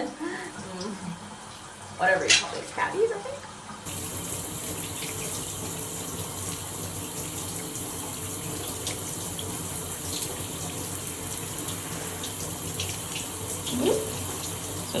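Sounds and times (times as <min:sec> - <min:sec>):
shower water spraying: 0:02.0 - 0:15.0.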